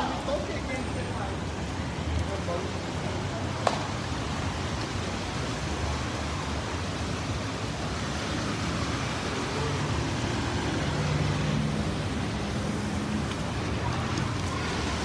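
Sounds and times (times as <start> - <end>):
floodwater flowing across road: 0.0 - 15.0
traffic driving through water: 0.0 - 15.0.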